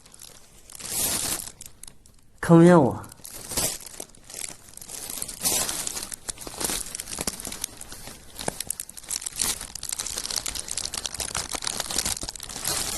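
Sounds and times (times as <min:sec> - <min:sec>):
rustling and crinkling: 0:00.0 - 0:02.3, 0:03.2 - 0:12.9.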